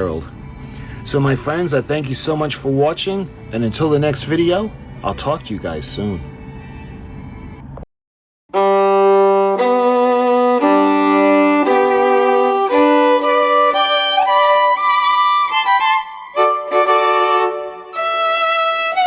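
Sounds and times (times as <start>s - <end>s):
solo violin melody: 0.0s - 7.8s, 8.5s - 19.0s.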